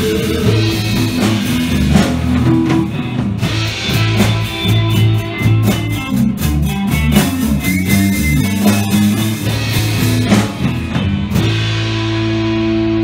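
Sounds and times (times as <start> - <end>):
blues-rock band playing: 0.0 - 13.0
drum kit: 0.0 - 13.0.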